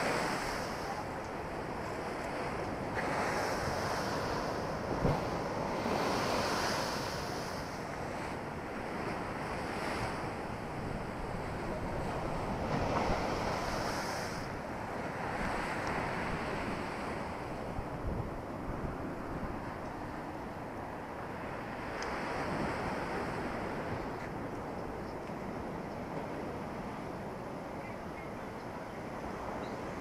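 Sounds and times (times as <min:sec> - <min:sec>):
storm waves crashing on seawall: 0:00.0 - 0:27.8
wind buffeting microphone: 0:00.0 - 0:30.0.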